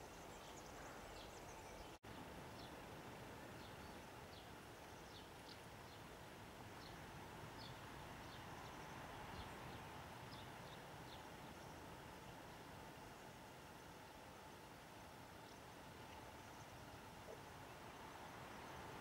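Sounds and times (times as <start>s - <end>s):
low steady hiss: 0.0s - 19.0s.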